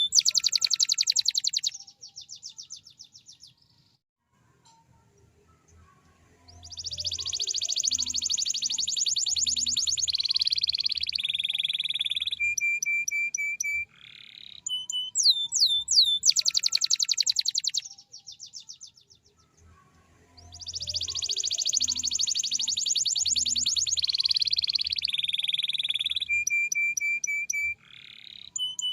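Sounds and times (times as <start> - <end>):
canary singing trills: 0.0 - 4.0, 5.2 - 28.9.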